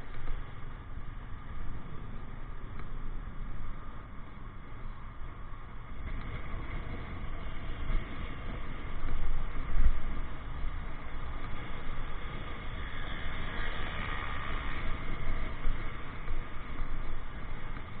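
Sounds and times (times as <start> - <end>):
motorcycle riding rumble: 0.0 - 18.0.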